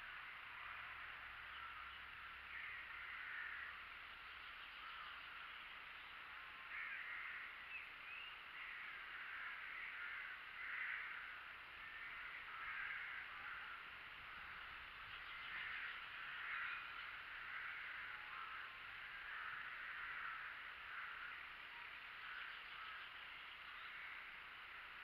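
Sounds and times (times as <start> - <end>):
faint bird calls: 0.0 - 25.0
steady hiss: 0.0 - 25.0.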